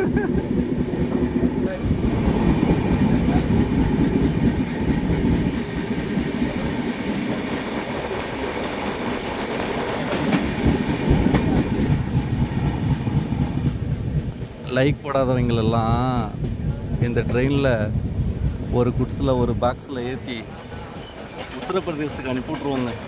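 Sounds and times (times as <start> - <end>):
train wheels rumbling and clattering: 0.0 - 23.0.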